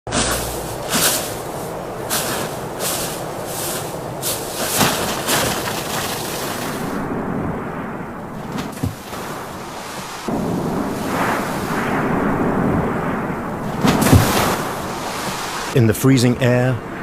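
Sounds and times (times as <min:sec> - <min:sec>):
strong wind gusting: 0:00.1 - 0:17.0.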